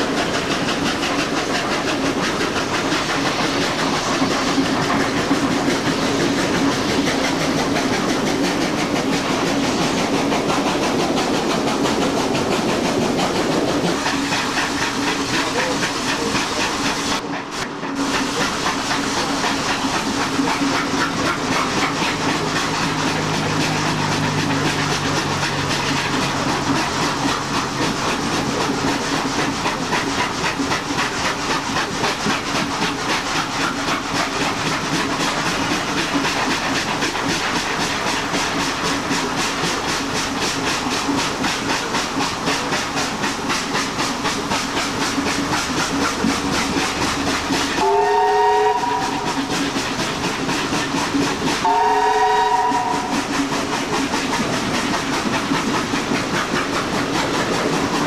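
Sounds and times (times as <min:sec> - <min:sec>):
carriage wheels on rail: 0:00.0 - 0:58.0
hissing steam: 0:00.0 - 0:58.0
steam locomotive exhaust chuffs: 0:00.0 - 0:58.0.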